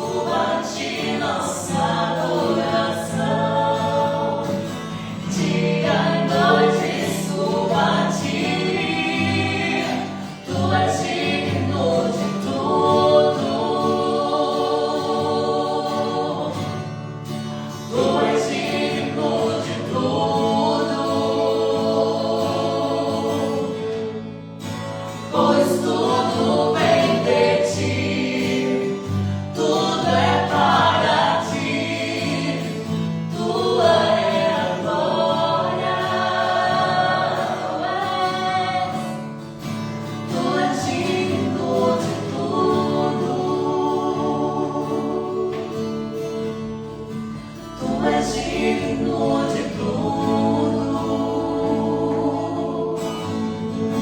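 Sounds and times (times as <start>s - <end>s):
group of voices singing: 0.0s - 54.0s.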